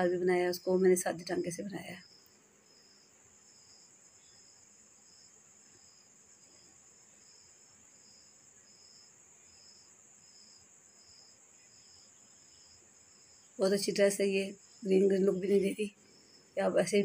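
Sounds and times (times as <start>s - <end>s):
faint crickets chirping: 0.0s - 17.0s.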